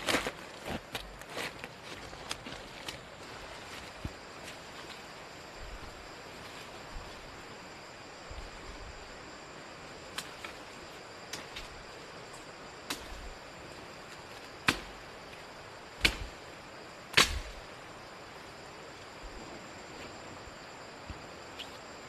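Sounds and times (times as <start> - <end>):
faint high insect tones: 0.0 - 22.0
outdoor hiss: 0.0 - 22.0.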